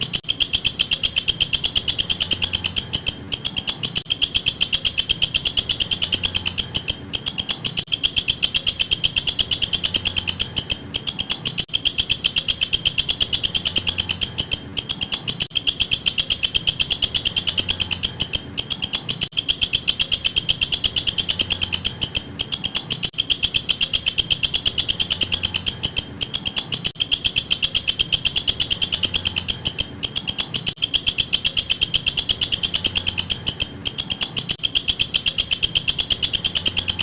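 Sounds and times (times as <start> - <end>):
katydid chirping: 0.0 - 37.0.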